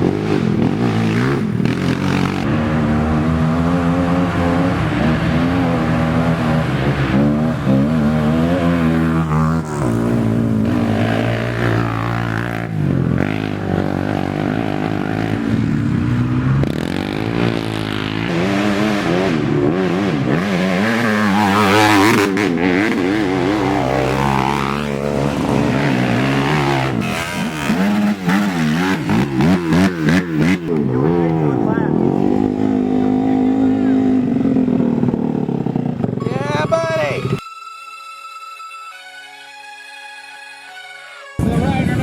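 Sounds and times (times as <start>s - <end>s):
quad bike engines revving: 0.0s - 37.4s, 41.4s - 42.0s.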